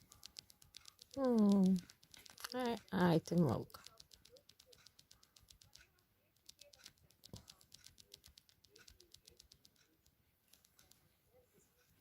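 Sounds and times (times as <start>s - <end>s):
kitten claws scratching puppet: 0.0s - 11.1s.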